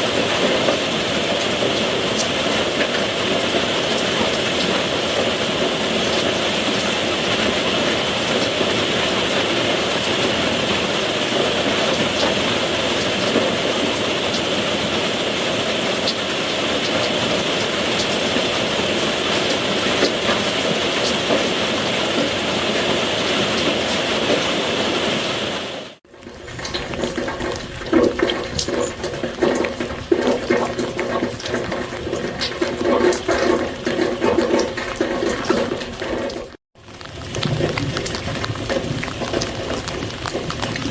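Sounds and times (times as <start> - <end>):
rain falling: 0.0 - 40.9
water splashing and dripping: 0.0 - 40.9.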